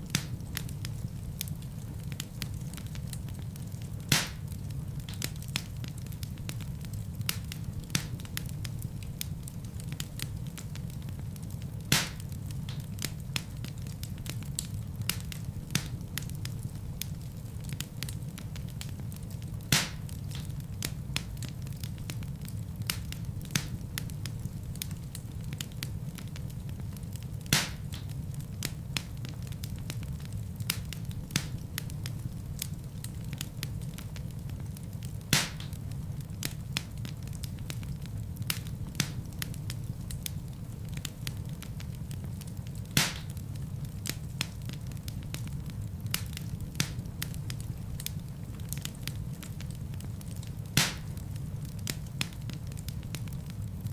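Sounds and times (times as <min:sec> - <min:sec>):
logs crackling: 0:00.0 - 0:08.8, 0:09.6 - 0:53.9
loud fire pops: 0:00.0 - 0:53.9
low rumble of flames: 0:00.0 - 0:53.9.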